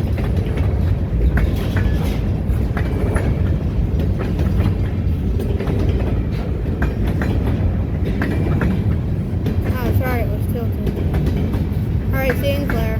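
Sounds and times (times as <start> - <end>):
freight train rumbling past: 0.0 - 12.9
wheel clicks over rail joints: 0.0 - 12.9.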